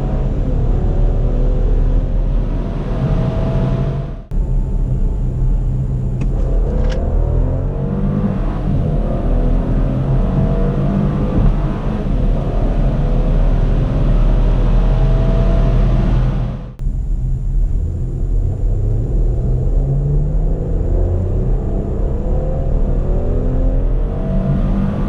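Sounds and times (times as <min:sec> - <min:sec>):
car engine at full throttle: 0:00.0 - 0:25.0.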